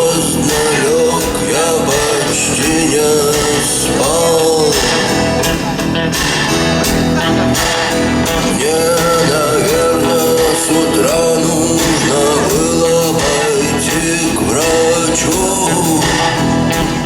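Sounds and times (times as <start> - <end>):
person singing: 0.0 - 17.0
rock band playing live: 0.0 - 17.0.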